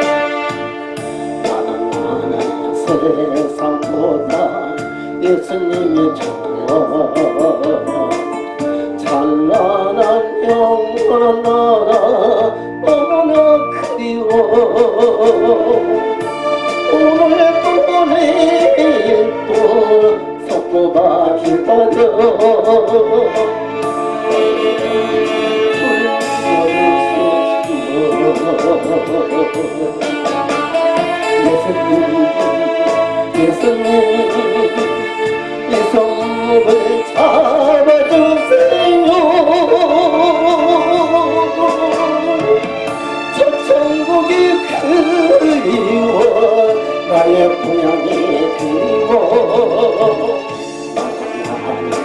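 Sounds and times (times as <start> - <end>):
instrumental accompaniment: 0.0 - 52.0
man singing with vibrato: 0.0 - 52.0.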